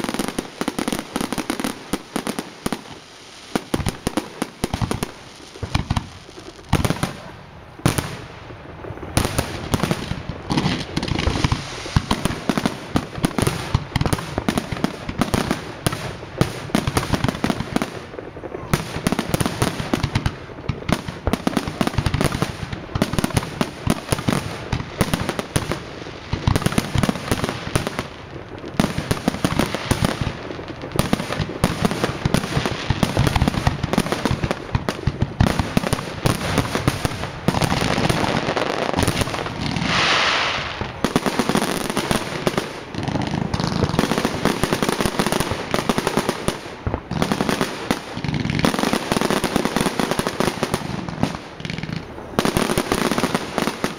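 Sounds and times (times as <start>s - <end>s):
firework hiss: 0.0s - 53.9s
fireworks bangs and crackles: 0.0s - 53.9s.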